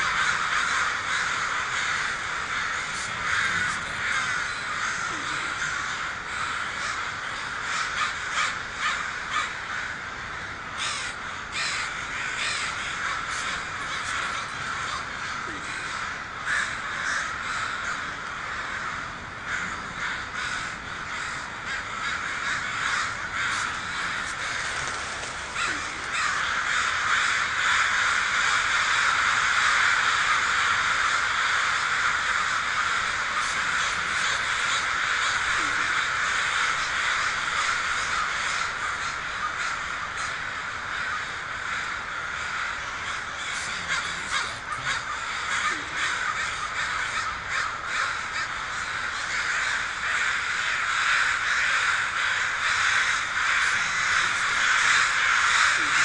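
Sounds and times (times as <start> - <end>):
crows cawing: 0.0 - 56.0.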